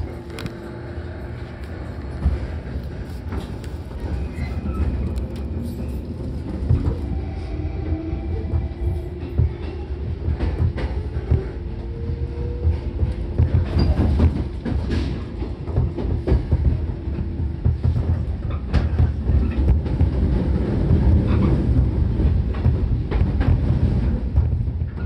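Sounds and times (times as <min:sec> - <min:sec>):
train wheels and motors rumbling: 0:00.0 - 0:25.0.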